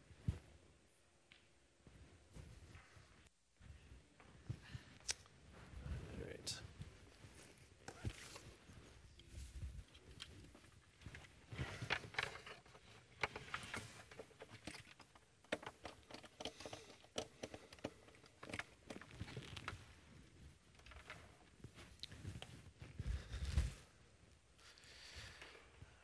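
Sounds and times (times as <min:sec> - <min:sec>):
rustling of handled objects: 0:01.8 - 0:26.0.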